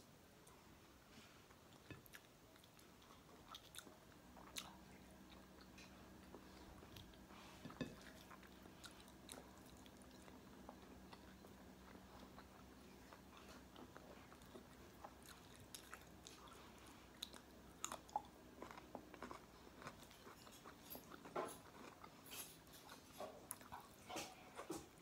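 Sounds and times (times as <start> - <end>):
faint low hum: 0.0 - 25.0
person chewing food: 1.2 - 25.0.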